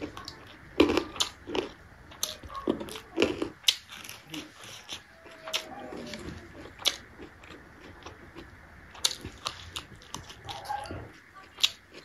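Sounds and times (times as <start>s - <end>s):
chewing with wet smacking: 0.0s - 12.0s.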